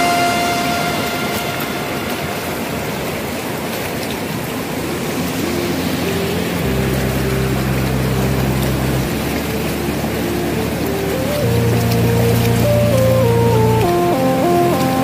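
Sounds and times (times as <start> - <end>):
background music with low held notes: 0.0 - 2.8, 5.0 - 15.0
river rapids rushing: 0.0 - 13.2.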